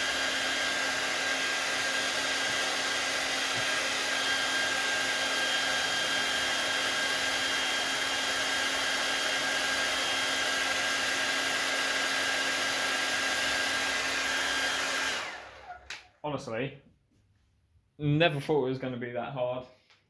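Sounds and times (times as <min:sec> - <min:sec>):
hot-air blower whining: 0:00.0 - 0:16.1.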